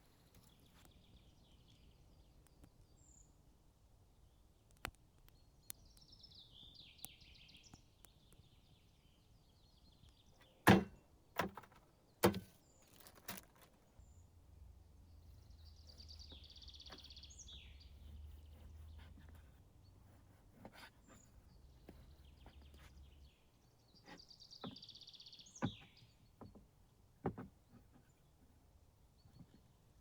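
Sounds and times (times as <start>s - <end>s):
small birds singing: 0.0s - 30.0s.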